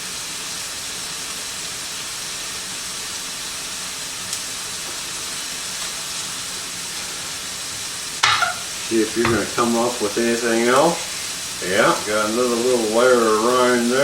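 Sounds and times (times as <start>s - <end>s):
vegetables sizzling in a frying pan: 0.0s - 14.0s.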